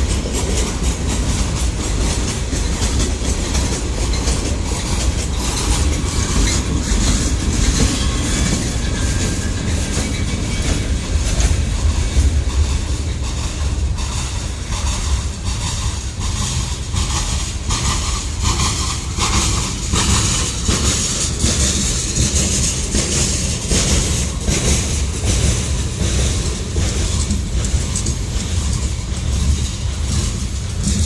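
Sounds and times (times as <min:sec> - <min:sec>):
freight train cars rumbling: 0:00.0 - 0:31.0
wheels clicking over rail joints: 0:00.0 - 0:31.0.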